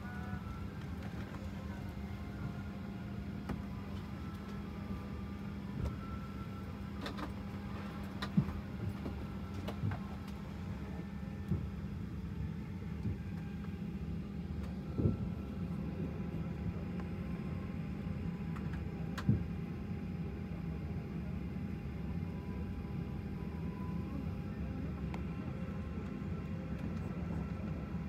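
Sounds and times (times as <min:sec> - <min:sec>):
airliner cabin hum: 0:00.0 - 0:28.0.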